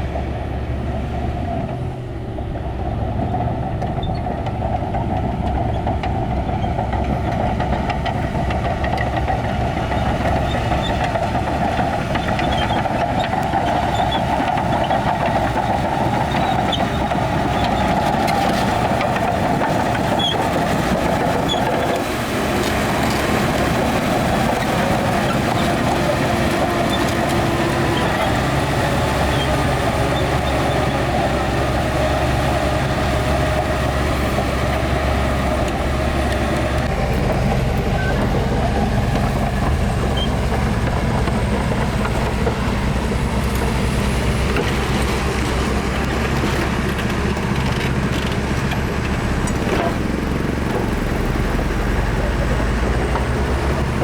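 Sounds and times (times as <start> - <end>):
heavy diesel machinery engine drone: 0.0 - 54.0.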